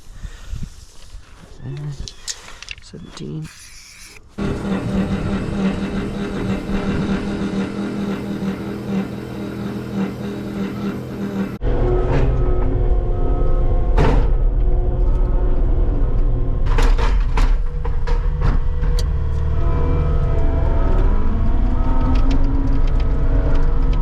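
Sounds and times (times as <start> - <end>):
diesel engine running: 4.4 - 24.0.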